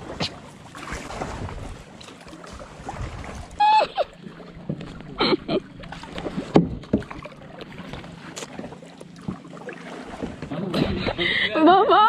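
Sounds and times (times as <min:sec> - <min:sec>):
paddle blades splashing: 0:00.0 - 0:12.0.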